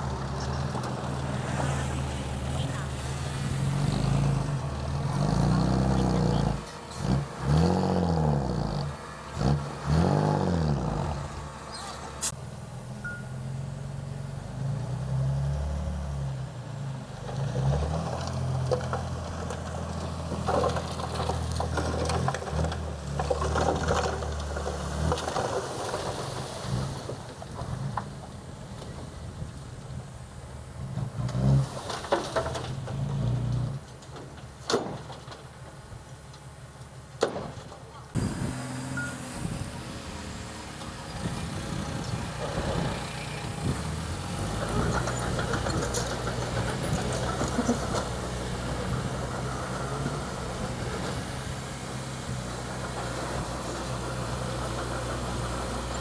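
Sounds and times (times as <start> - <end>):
diesel engine revving: 0.0 - 34.2, 38.1 - 56.0.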